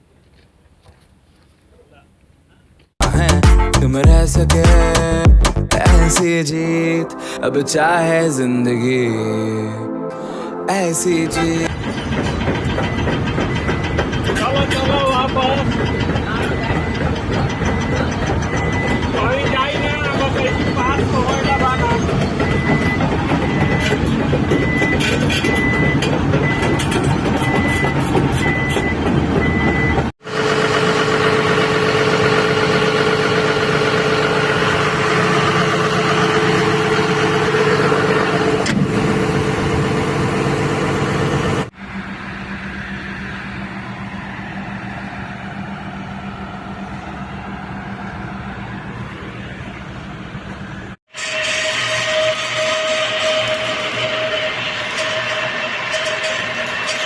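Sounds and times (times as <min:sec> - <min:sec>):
excavator diesel engine droning: 0:03.0 - 0:57.0.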